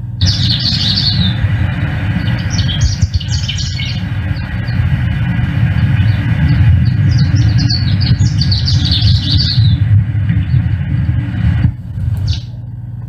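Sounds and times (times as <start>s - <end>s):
loud steady low rumble: 0.0s - 13.0s
bird chirping and twittering: 0.2s - 11.6s, 12.2s - 12.6s.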